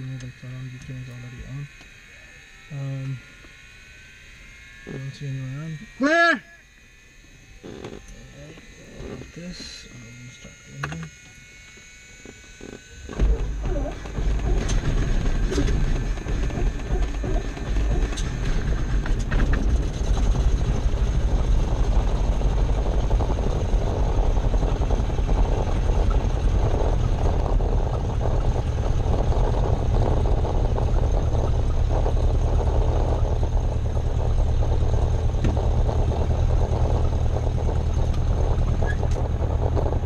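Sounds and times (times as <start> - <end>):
airplane engine idling: 0.0 - 40.0.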